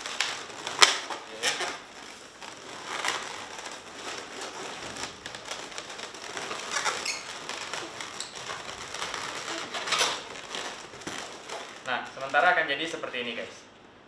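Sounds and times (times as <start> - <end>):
rubber balloons rubbing: 0.0 - 13.0.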